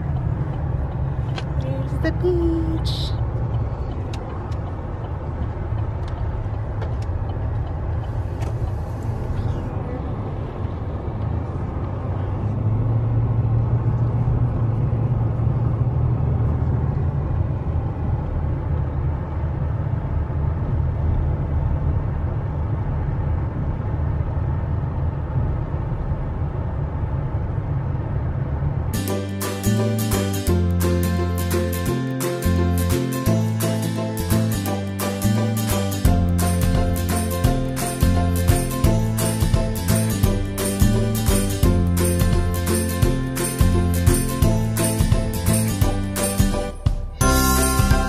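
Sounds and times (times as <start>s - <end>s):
vehicle engine and road noise: 0.0s - 48.0s.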